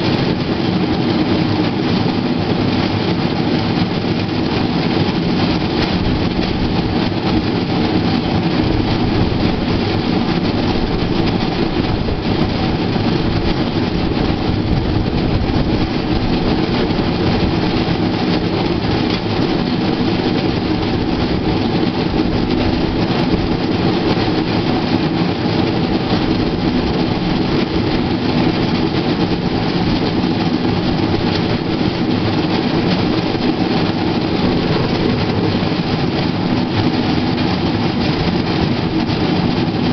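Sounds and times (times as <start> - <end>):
steel wheels rolling on rails: 0.0 - 39.9.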